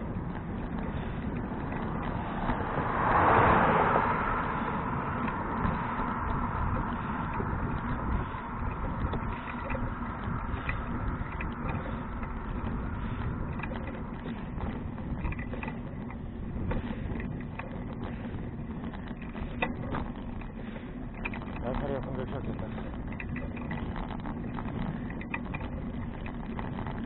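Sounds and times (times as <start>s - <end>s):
bicycle clicks and rattles: 0.0s - 27.0s
wind rumbling on microphone: 0.0s - 27.0s.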